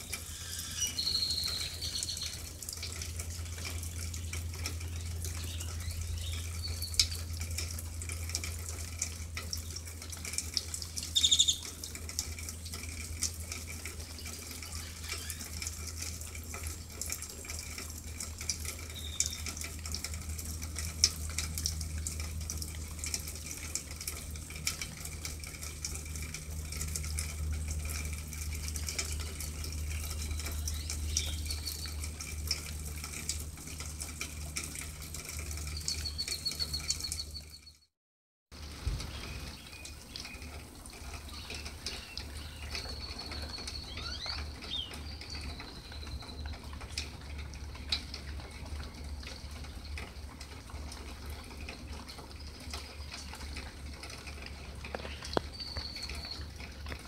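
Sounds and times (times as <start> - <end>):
rain pattering and dripping: 0.0 - 37.9, 38.5 - 57.0.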